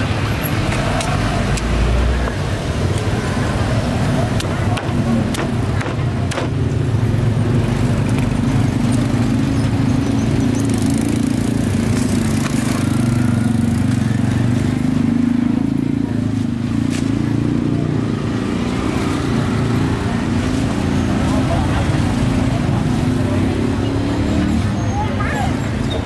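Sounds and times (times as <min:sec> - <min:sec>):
street traffic with motorbikes: 0:00.0 - 0:26.0.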